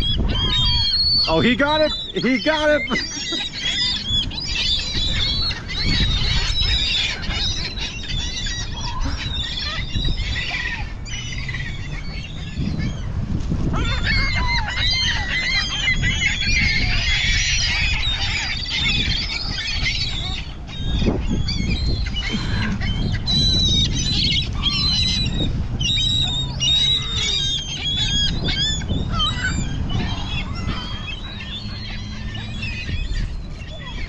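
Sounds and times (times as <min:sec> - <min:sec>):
seagulls calling and squawking: 0:00.0 - 0:34.0.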